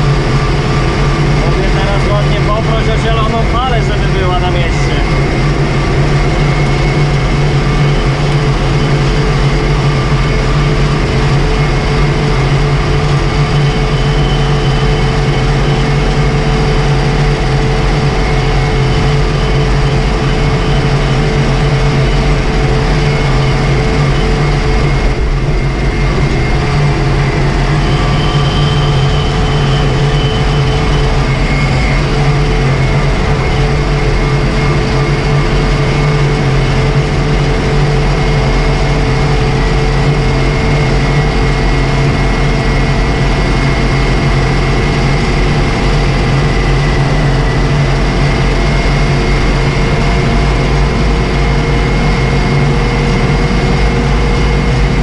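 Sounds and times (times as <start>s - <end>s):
diesel tractor engine running: 0.0s - 55.0s
thin high whine: 0.0s - 55.0s.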